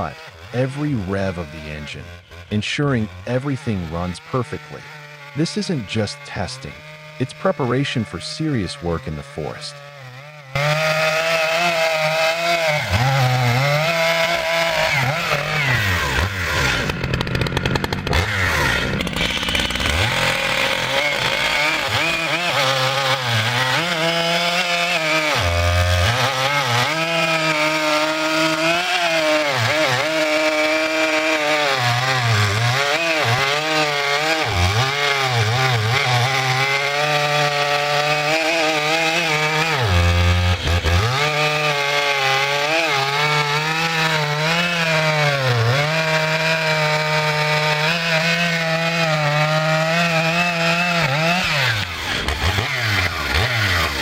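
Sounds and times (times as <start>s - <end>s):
chainsaw cutting through logs: 0.0s - 54.0s.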